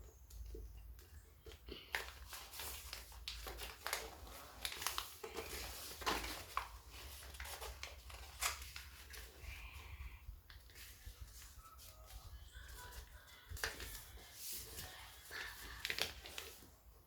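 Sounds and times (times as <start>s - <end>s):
paper crinkling and rustling: 0.4s - 9.9s, 10.5s - 17.0s.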